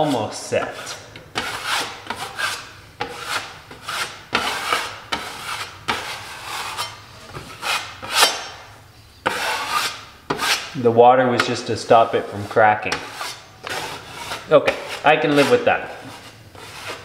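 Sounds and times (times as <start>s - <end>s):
drywall knife scraping compound: 0.0s - 8.6s, 9.2s - 10.8s, 11.4s - 17.0s.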